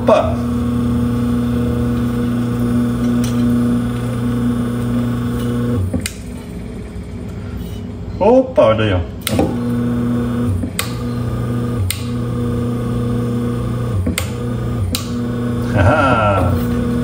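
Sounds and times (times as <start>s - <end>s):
fan motor humming: 0.0s - 17.0s.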